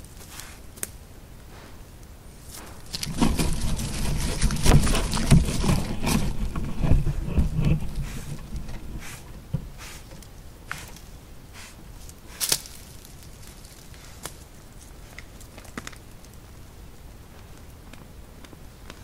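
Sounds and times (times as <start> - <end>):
faint rustling: 0.0 - 19.0.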